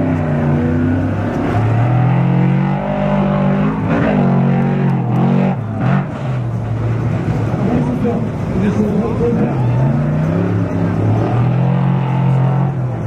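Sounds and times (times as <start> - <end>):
racing truck engine revving: 0.0 - 13.0.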